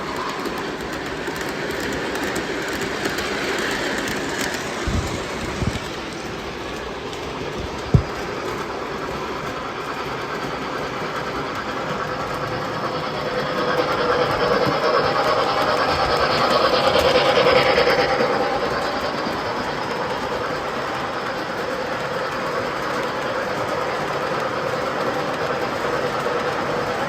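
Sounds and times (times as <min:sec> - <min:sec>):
model train running on track: 0:00.0 - 0:27.0.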